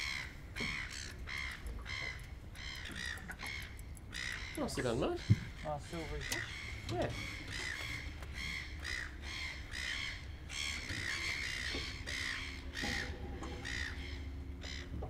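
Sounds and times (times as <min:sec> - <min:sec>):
birds squawking: 0:00.0 - 0:15.0.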